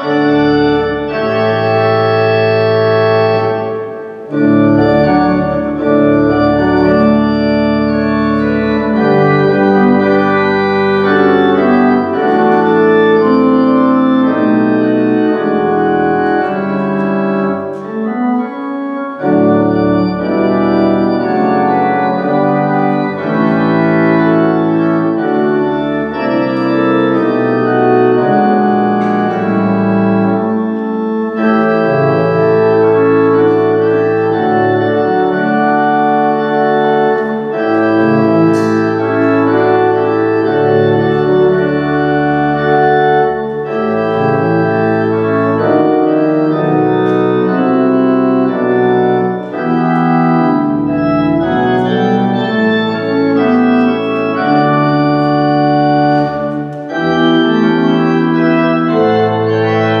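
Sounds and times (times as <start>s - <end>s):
church organ chords: 0.0s - 60.0s.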